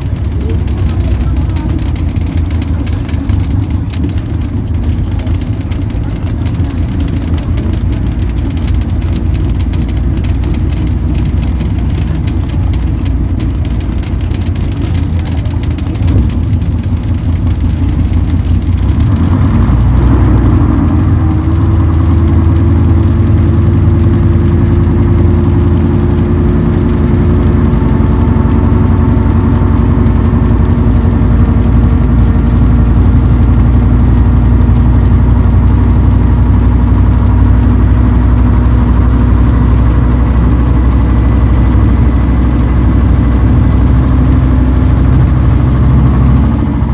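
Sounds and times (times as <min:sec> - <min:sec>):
bus diesel engine: 0:00.0 - 0:46.9.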